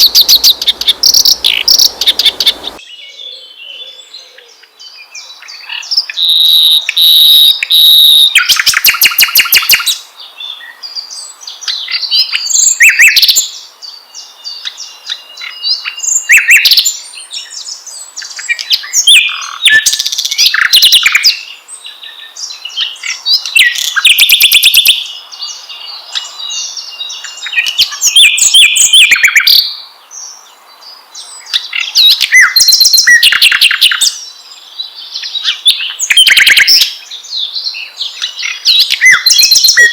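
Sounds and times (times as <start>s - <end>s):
quiet bird chatter: 0.0s - 39.9s
songbird singing: 0.0s - 39.9s.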